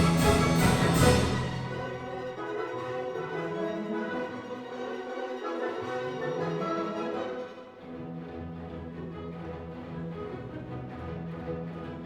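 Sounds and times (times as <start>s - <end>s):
orchestral strings music: 0.0s - 12.0s.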